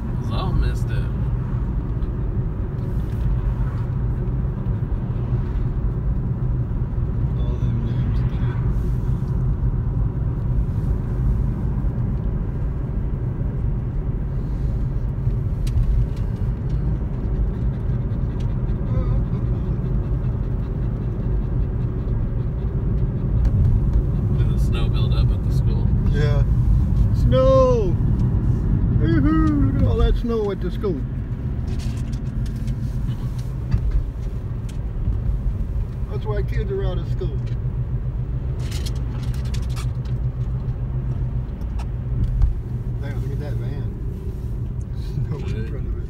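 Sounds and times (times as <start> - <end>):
car tyre and engine rumble: 0.0 - 46.0.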